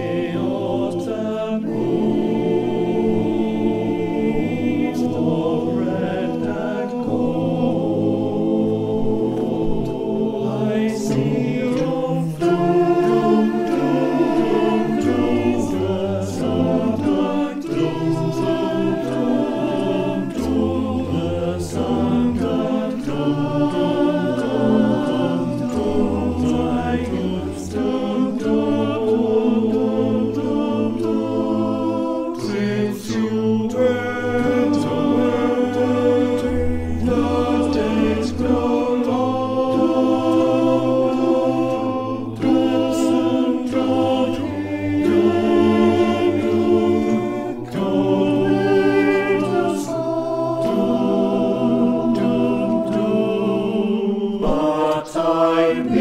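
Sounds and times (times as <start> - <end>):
male choir singing a cappella: 0.0 - 56.0.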